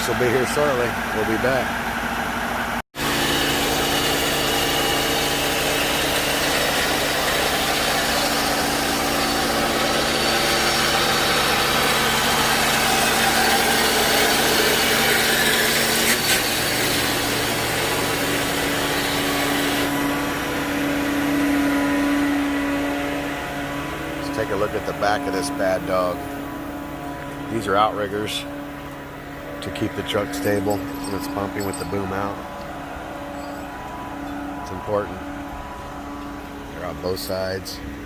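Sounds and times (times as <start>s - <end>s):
truck engine running: 0.0s - 38.0s.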